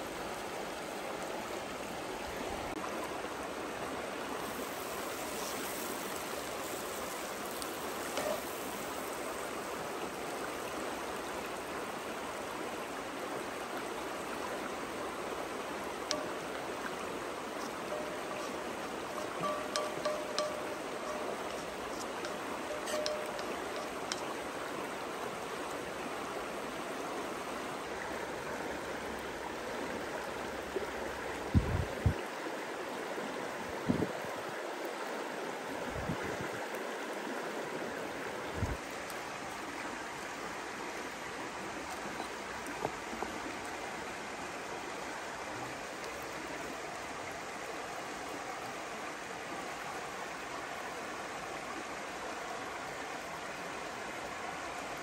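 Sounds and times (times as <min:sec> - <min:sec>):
creek water flowing over rocks: 0:00.0 - 0:55.0.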